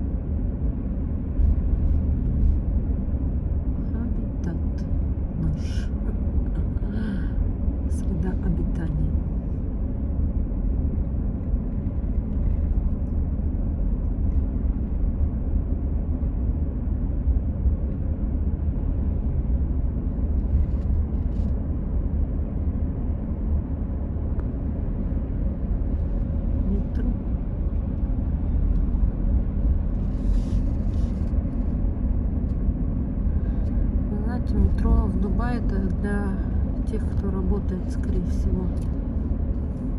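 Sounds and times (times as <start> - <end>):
car engine and tyre noise: 0.0 - 7.9, 9.1 - 35.6, 36.4 - 39.9.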